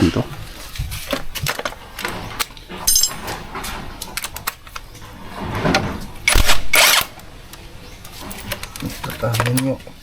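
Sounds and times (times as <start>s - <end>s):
hand tools clanking on metal: 1.2s - 9.8s.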